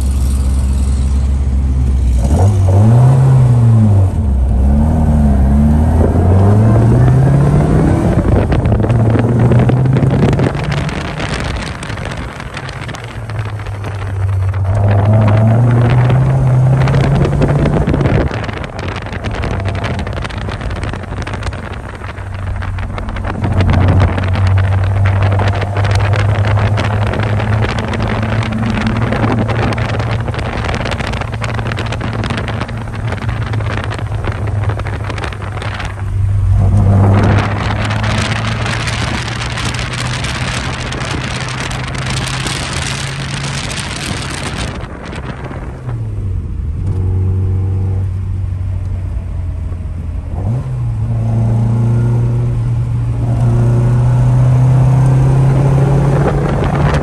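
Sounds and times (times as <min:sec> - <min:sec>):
car engine running: 0:00.0 - 0:57.0
road and wind noise hiss: 0:00.0 - 0:57.0.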